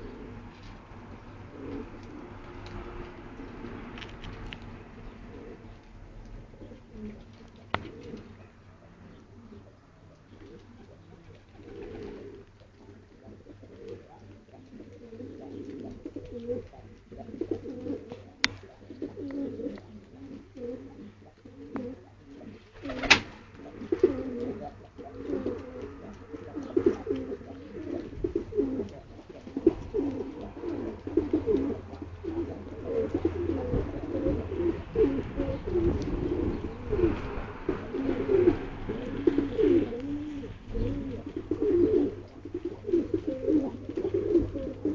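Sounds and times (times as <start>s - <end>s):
pigeons cooing: 0.0s - 44.9s.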